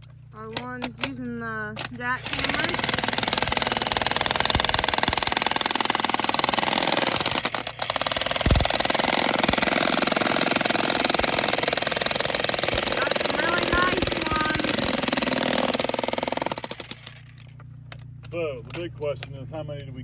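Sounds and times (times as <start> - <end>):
jackhammers hammering rock: 0.4 - 17.6.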